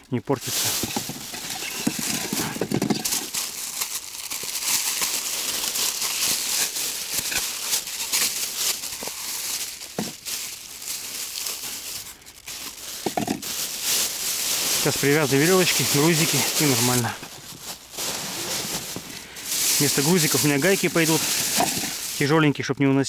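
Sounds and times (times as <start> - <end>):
crinkling and rustling handling: 0.0 - 23.0.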